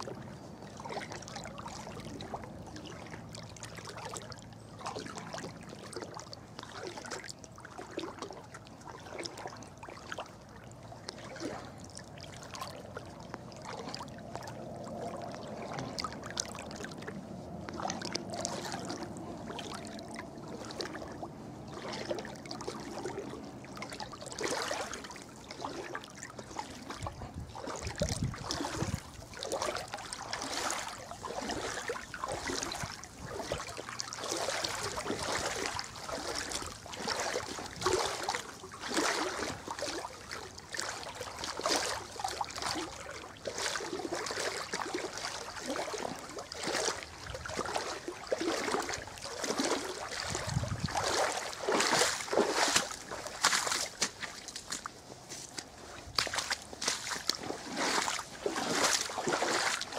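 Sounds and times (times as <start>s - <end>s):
wading through water: 0.0s - 59.9s.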